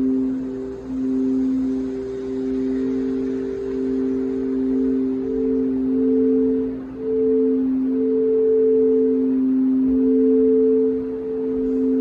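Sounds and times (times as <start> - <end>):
singing bowls ringing: 0.0 - 12.0.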